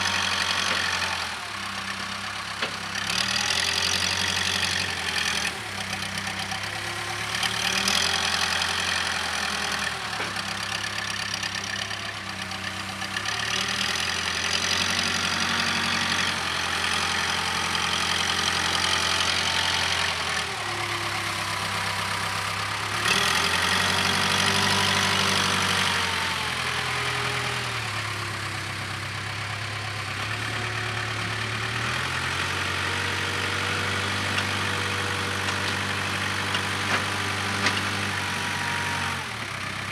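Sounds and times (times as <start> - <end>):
backhoe diesel engine working: 0.0 - 39.9.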